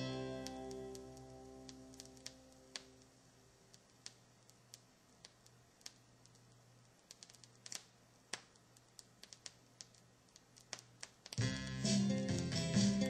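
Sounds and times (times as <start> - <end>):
faint steady hum: 0.0 - 13.0
vinyl clicks and pops: 0.0 - 13.0.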